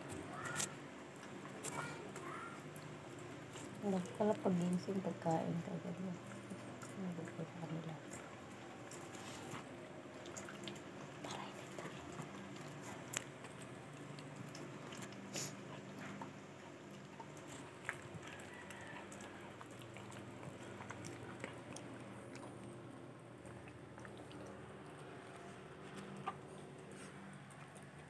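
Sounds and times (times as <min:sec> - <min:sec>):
dog chewing crunches: 0:00.0 - 0:28.0
steady low hum: 0:00.0 - 0:28.0.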